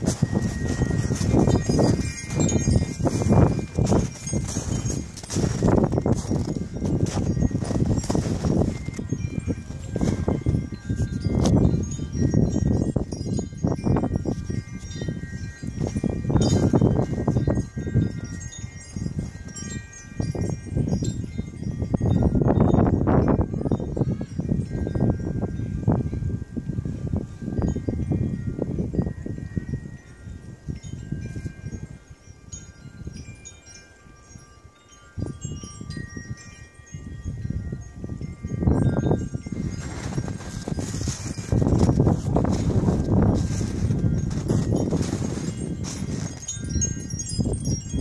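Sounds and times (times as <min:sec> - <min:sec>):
wind chimes ringing: 0:00.0 - 0:48.0.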